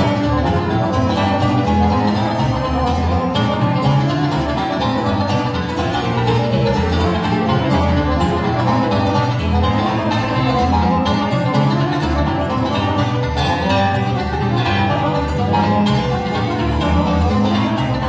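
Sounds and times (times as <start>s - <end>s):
folk band playing: 0.0s - 18.0s.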